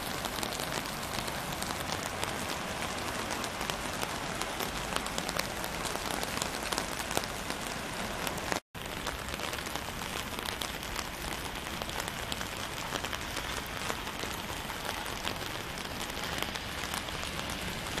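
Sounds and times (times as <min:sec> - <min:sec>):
steady rain on wet ground: 0:00.0 - 0:18.0.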